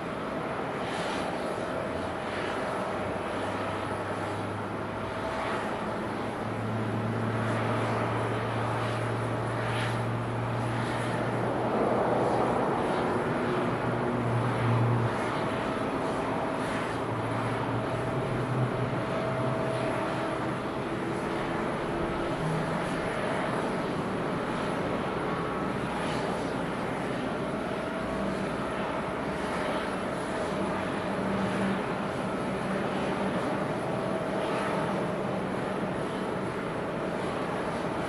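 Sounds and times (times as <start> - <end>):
jet engines droning: 0.0 - 38.0.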